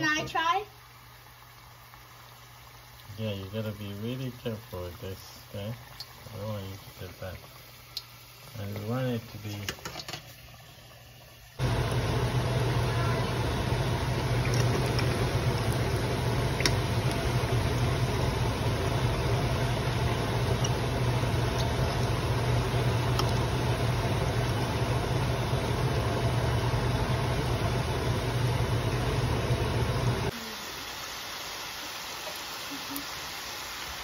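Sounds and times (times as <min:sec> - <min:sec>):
dough sizzling in hot oil: 0:00.0 - 0:34.0.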